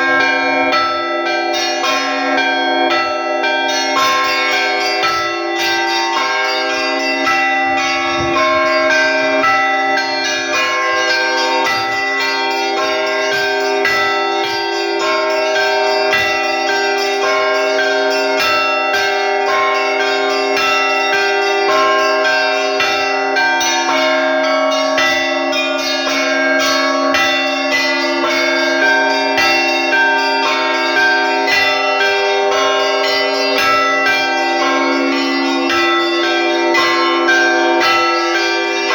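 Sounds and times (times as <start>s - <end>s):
low bells ringing: 0.0s - 38.9s
small bells rhythmic ringing: 0.0s - 38.9s.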